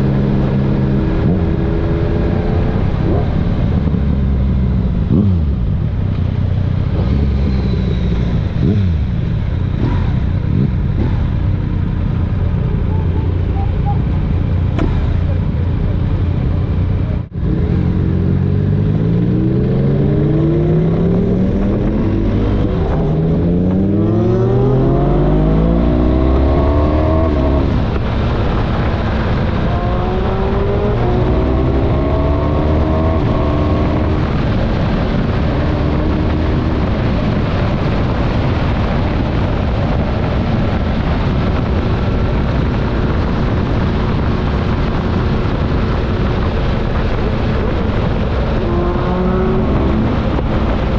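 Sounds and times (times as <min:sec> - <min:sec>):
motorcycle engine shifting gears: 0:00.0 - 0:50.9
wind and road noise: 0:00.0 - 0:50.9.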